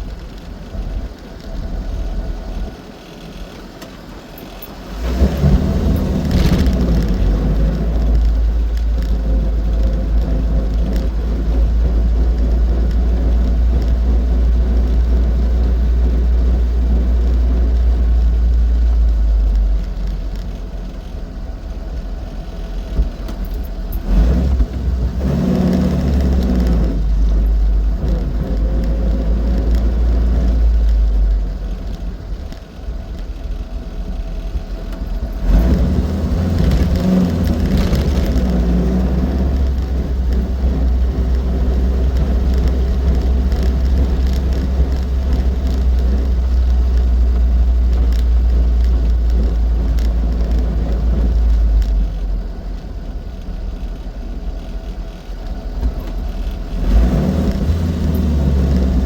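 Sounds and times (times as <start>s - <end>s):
car engine and road noise rumble: 0.0s - 59.0s.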